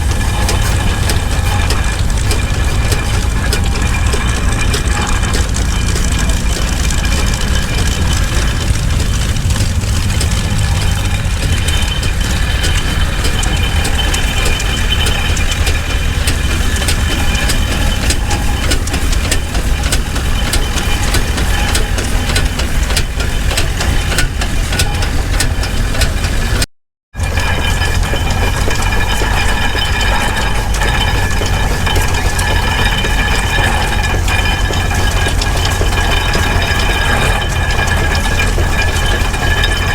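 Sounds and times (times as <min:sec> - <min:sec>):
irregular clicks and knocks: 0:00.0 - 0:39.9
steam machinery rumbling: 0:00.0 - 0:39.9.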